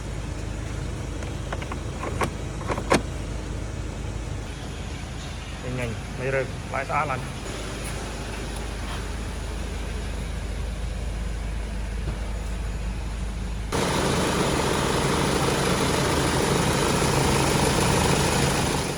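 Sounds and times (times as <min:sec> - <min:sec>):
van engine idling: 0:00.0 - 0:18.9.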